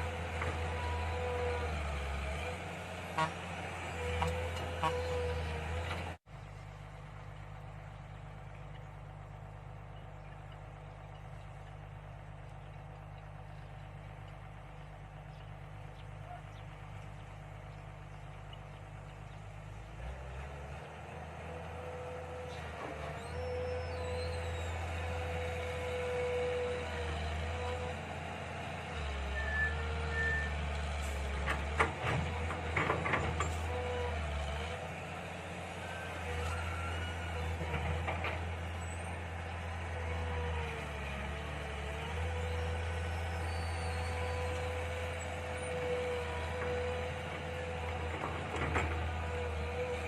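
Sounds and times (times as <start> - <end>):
excavator engine drone: 0.0 - 50.0.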